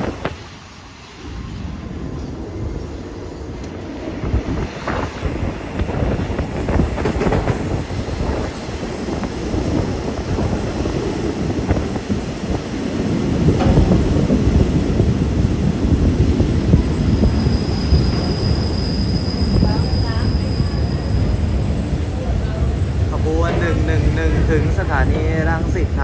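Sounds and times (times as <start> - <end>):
train wheels clattering over rails: 3.6 - 26.0.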